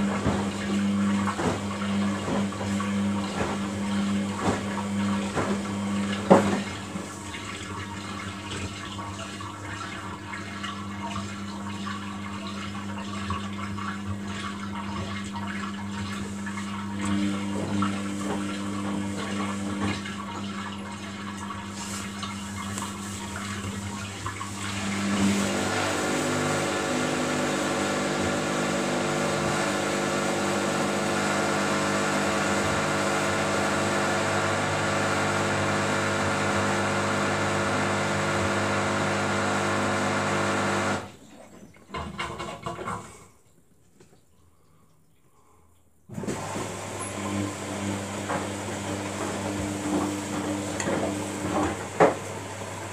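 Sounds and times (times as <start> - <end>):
washing machine motor hum: 0.0 - 43.1, 46.1 - 52.9
water sloshing in washing machine: 0.0 - 52.9.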